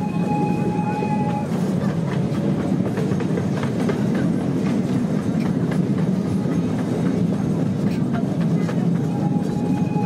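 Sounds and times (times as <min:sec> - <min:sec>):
train cars rumbling: 0:00.0 - 0:10.0.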